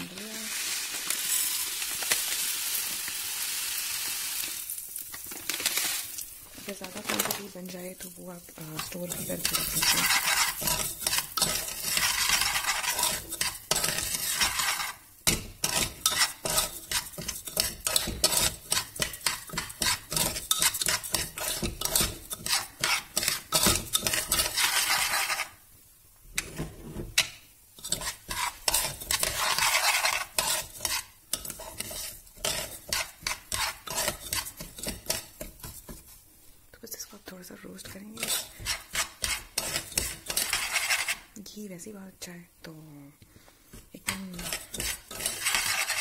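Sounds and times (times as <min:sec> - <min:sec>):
sizzling hiss: 0:00.0 - 0:41.9
spoon stirring and scraping pot: 0:05.5 - 0:41.6, 0:43.3 - 0:46.0.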